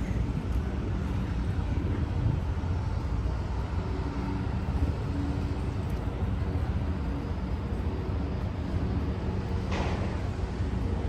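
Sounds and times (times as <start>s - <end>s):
faint engine hum: 0.0s - 11.0s
traffic rumble: 0.0s - 11.0s.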